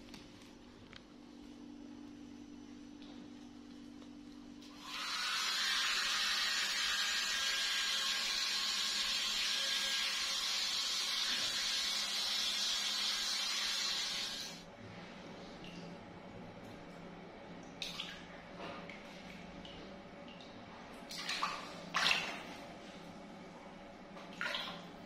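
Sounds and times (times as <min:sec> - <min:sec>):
faint water sounds in bathtub: 0:00.0 - 0:25.0.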